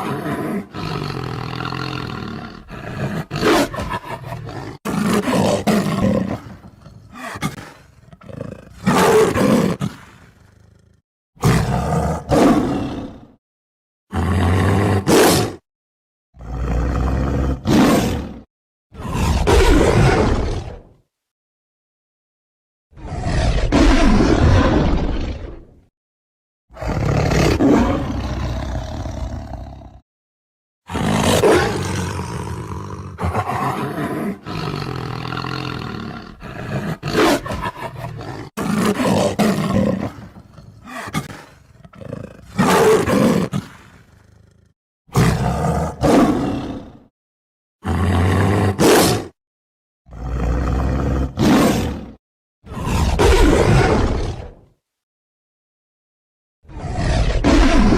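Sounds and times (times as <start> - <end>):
tiger roars and growls: 0.0 - 13.4, 14.1 - 15.6, 16.4 - 21.0, 22.9 - 25.9, 26.7 - 30.0, 30.8 - 47.1, 47.8 - 49.4, 50.1 - 54.8, 56.6 - 57.9.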